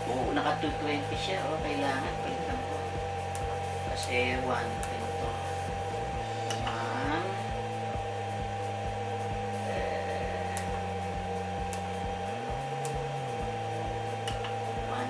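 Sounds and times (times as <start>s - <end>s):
electrical motor hum: 0.0s - 15.0s.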